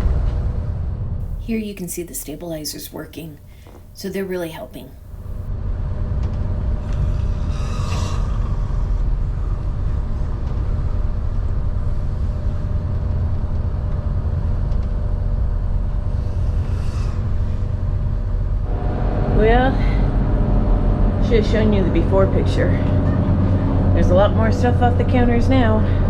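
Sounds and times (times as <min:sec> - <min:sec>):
boat diesel engine drone: 0:04.6 - 0:26.0.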